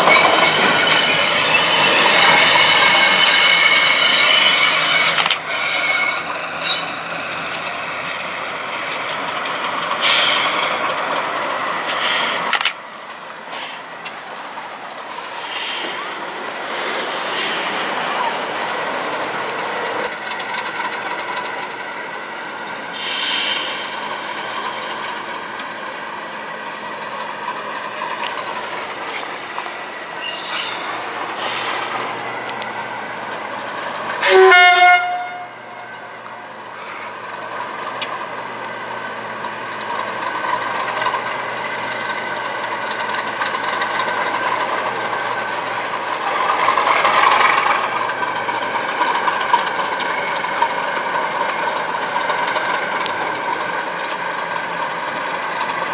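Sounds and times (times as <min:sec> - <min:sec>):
wheel squeal: 0:00.0 - 0:12.9, 0:13.5 - 0:55.9
train wheels running on rails: 0:00.0 - 0:55.9.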